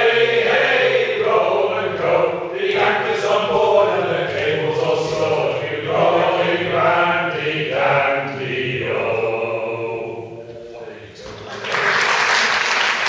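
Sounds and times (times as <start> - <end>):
group of men singing unaccompanied: 0.0 - 10.7.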